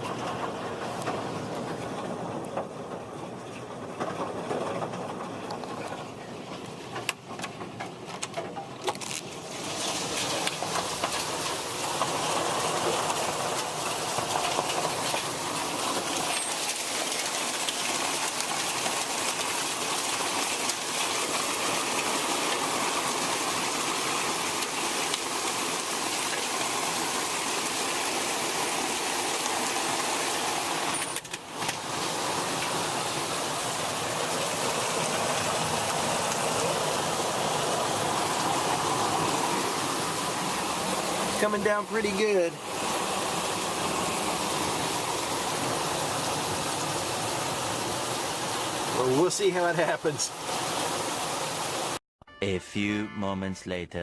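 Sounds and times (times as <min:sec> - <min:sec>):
hail and heavy rain pelting: 0:00.0 - 0:52.0.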